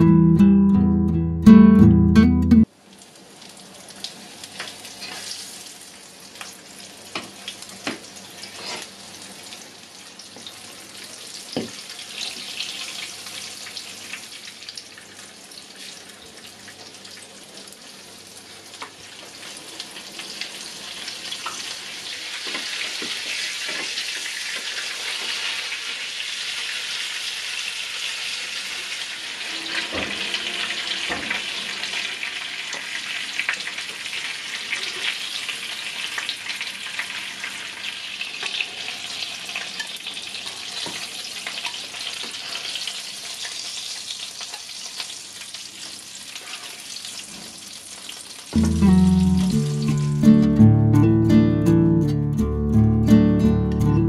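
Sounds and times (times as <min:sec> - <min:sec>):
food sizzling in hot oil: 0:02.7 - 0:48.8.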